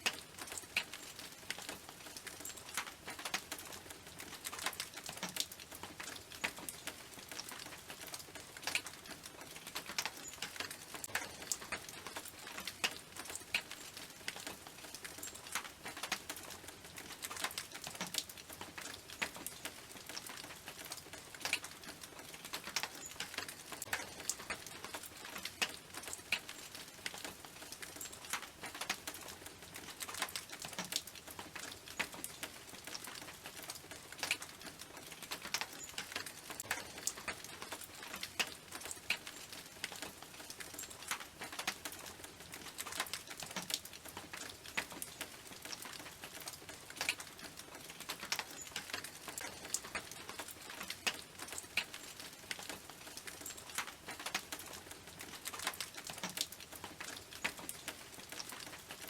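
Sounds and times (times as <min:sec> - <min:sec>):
rain dripping on a tin roof: 0:00.0 - 0:59.0
soft hiss of rain: 0:00.0 - 0:59.0.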